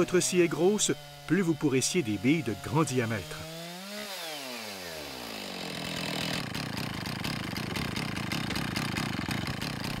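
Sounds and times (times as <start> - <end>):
chainsaw idling: 0.0 - 10.0.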